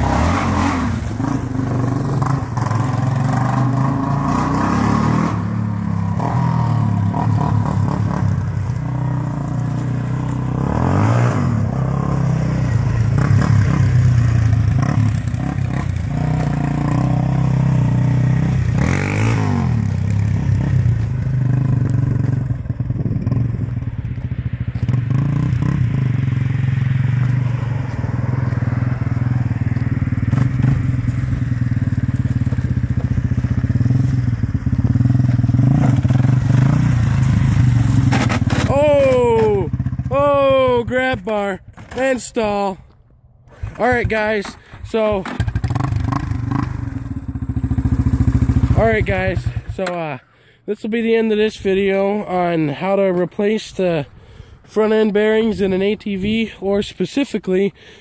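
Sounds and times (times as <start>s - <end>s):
quad engine revving: 0.0s - 23.8s, 24.5s - 41.2s, 43.5s - 50.2s.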